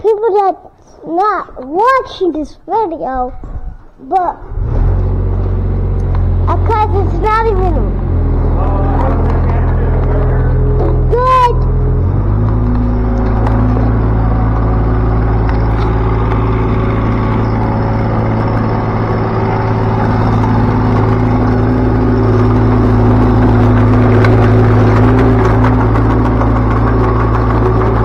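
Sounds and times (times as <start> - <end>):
excavator diesel engine running: 4.5 - 28.0.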